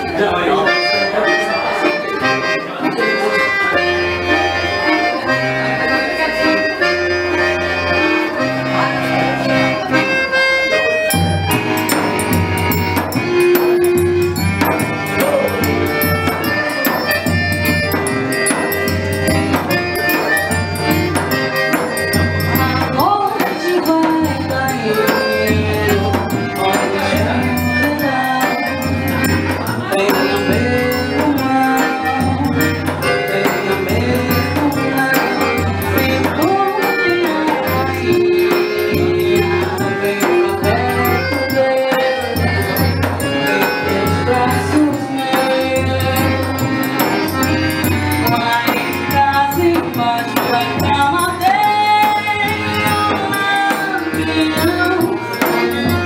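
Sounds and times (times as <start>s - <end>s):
accordion melody: 0.0s - 56.0s.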